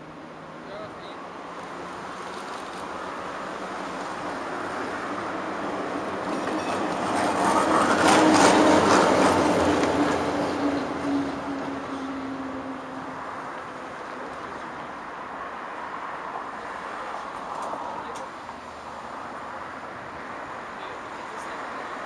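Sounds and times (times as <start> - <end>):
tram passing: 0.0 - 22.0.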